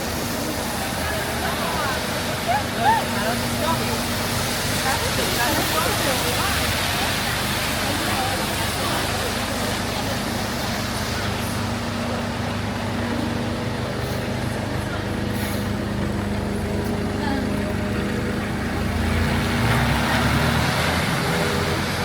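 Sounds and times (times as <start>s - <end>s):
rain on street: 0.0s - 22.0s
vehicle engine humming: 0.0s - 22.0s
vehicle passing rumble: 0.0s - 22.0s
wet traffic: 0.0s - 22.0s.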